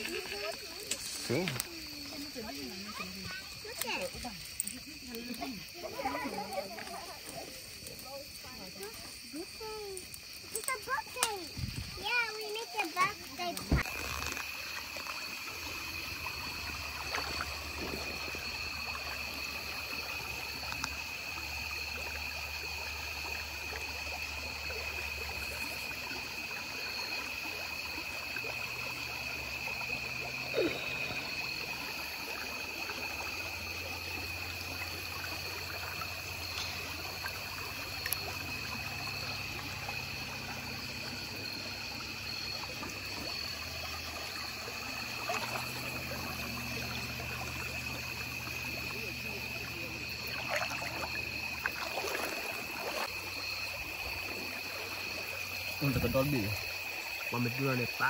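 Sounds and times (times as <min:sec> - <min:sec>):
stream water trickling: 0:00.0 - 0:58.0.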